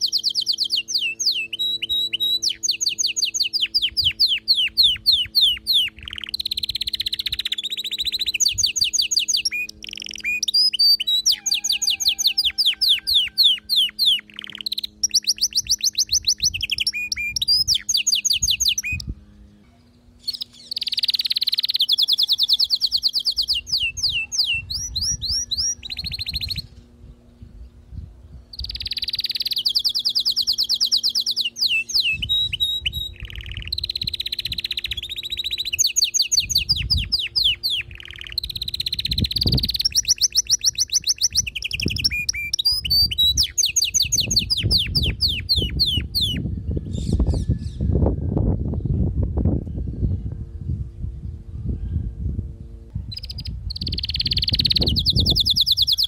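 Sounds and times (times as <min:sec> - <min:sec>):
canary singing trills: 0:00.0 - 0:48.0, 0:53.1 - 0:56.0.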